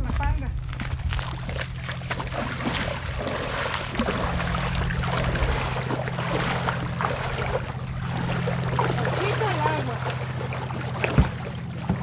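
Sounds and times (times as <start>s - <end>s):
steady low hum: 0.0s - 12.0s
boots splashing through water: 0.6s - 12.0s.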